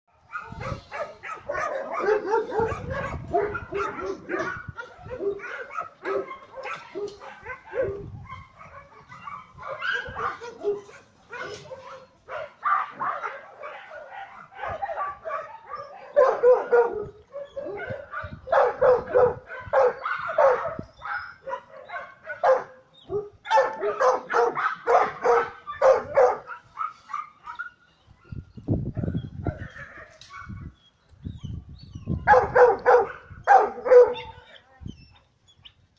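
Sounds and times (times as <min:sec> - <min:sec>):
dogs barking and yipping: 0:00.1 - 0:35.8.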